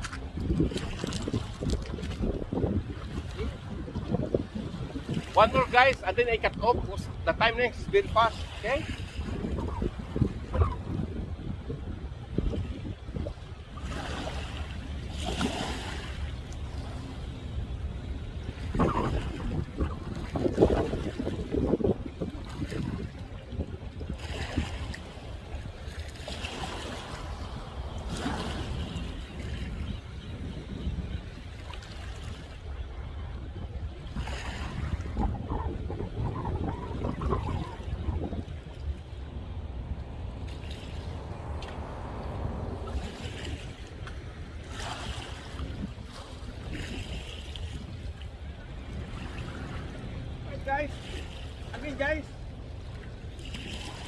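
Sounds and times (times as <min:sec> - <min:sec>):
water washing at shore: 0:00.0 - 0:54.0
wind buffeting microphone: 0:00.0 - 0:54.0.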